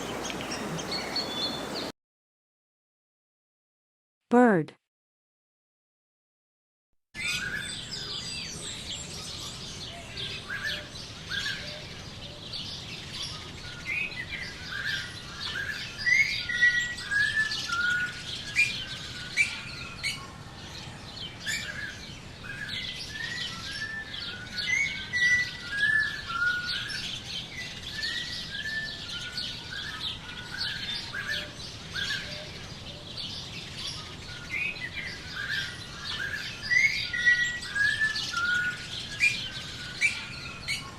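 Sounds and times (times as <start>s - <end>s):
birds chirping and singing: 0.0s - 1.9s, 7.2s - 40.9s.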